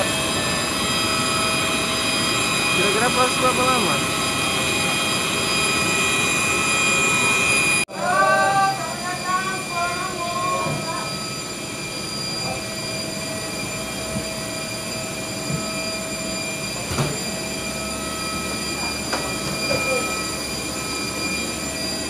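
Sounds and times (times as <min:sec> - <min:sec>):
jet engines and airflow rushing: 0:00.0 - 0:07.9, 0:08.6 - 0:22.0
steady high whines: 0:00.0 - 0:22.0.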